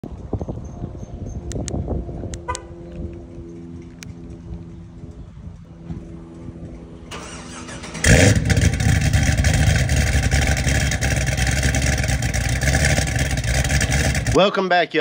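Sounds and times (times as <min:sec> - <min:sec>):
car engine cranking and idling: 0:01.5 - 0:14.4.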